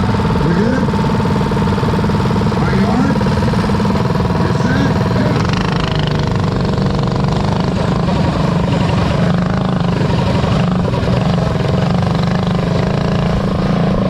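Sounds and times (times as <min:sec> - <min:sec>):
mini bike engines racing: 0:00.0 - 0:14.0.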